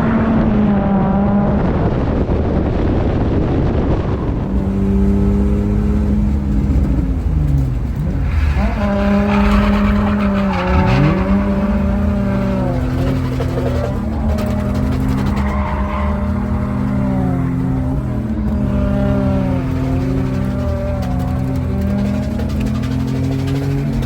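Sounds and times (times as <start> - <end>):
car engines revving: 0.0 - 24.0
tyres screeching: 4.2 - 24.0.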